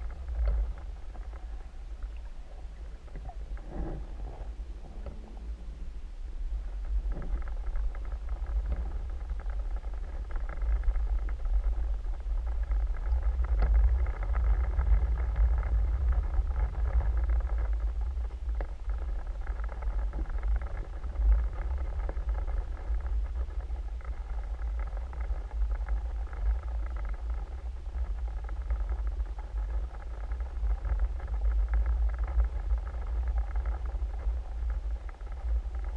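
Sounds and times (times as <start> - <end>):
faint clicks: 0.0 - 5.6, 6.8 - 35.9
faint steady hum: 0.0 - 35.9
underwater rumble: 0.0 - 35.9.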